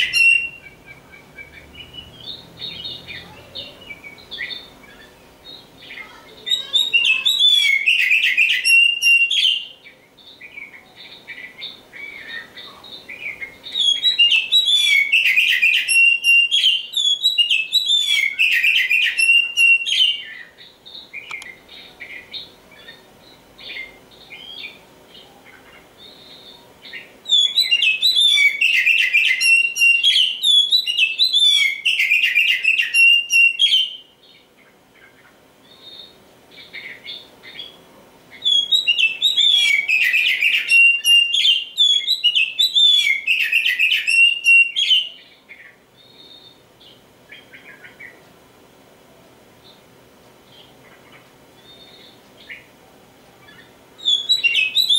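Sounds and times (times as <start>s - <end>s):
bird singing whistled phrases: 0.0s - 34.4s, 35.6s - 45.4s, 46.0s - 46.6s, 51.6s - 52.6s, 53.5s - 54.9s.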